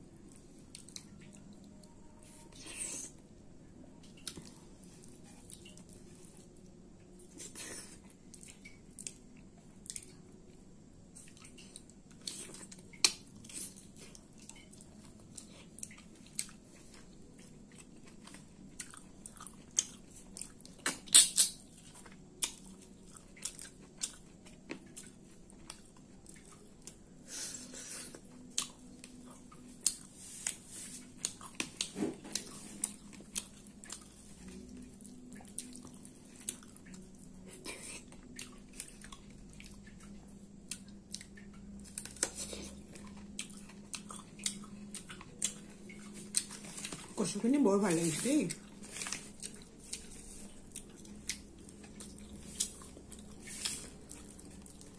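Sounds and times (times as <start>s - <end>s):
faint low hum: 0.0s - 54.9s
chewing and lip-smacking: 0.2s - 3.0s, 4.0s - 27.2s, 28.0s - 47.4s, 48.1s - 54.9s.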